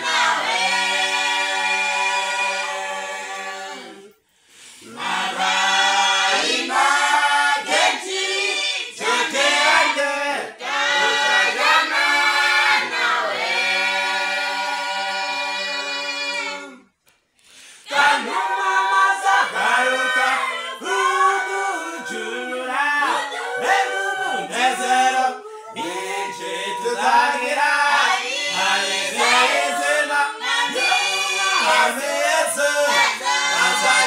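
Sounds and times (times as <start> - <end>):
group singing a cappella: 0.0 - 34.0.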